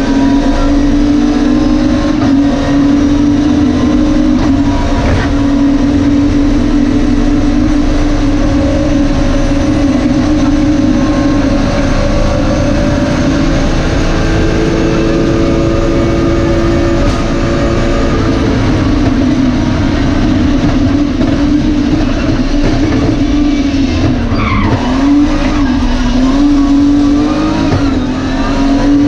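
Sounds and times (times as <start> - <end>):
car engine running hard: 0.0 - 29.0
road and wind noise: 0.0 - 29.0.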